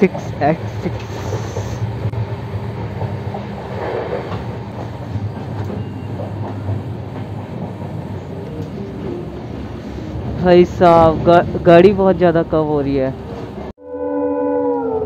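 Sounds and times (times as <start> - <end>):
train rumbling and rattling: 0.0 - 13.8.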